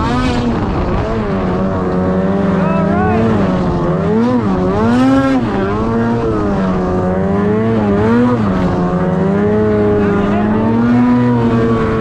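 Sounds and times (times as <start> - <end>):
snowmobile two-stroke engine revving: 0.0 - 12.0.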